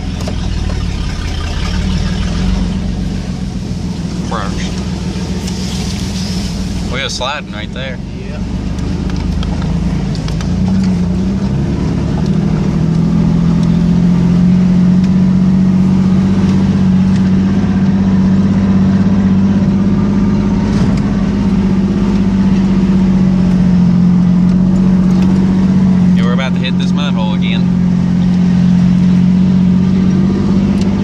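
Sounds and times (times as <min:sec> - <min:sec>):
pickup engine running: 0:00.0 - 0:31.0.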